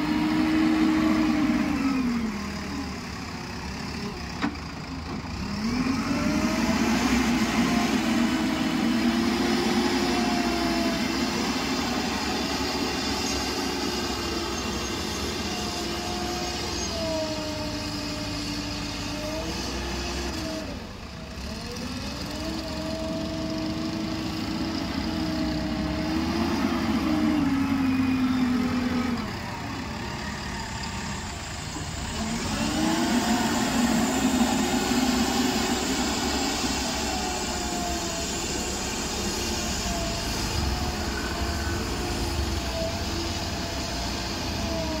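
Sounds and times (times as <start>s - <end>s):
diesel engine revving under load: 0.0s - 45.0s.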